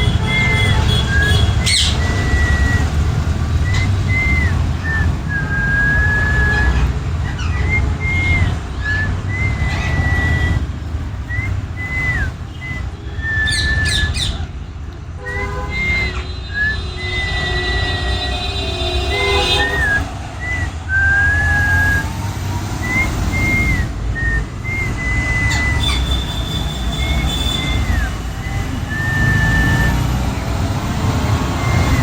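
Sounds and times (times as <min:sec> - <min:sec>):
high whistling: 0:00.0 - 0:14.4, 0:15.5 - 0:18.0, 0:19.4 - 0:32.0.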